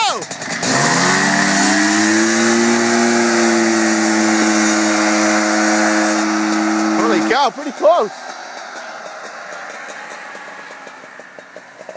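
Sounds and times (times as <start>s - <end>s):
off-road buggy engines revving high: 0.0s - 11.9s.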